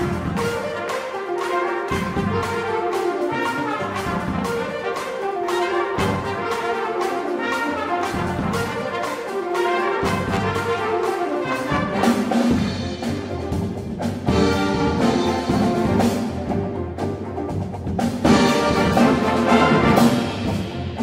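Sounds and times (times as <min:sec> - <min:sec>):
brass section: 0:00.0 - 0:13.6, 0:14.2 - 0:17.5, 0:18.2 - 0:21.0
jazz big band playing: 0:00.0 - 0:21.0.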